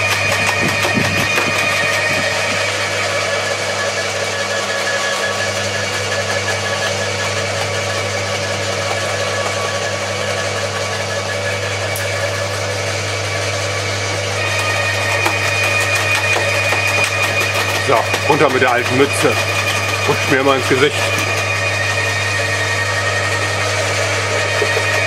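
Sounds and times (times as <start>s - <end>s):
garden shredders droning: 0.0s - 25.0s.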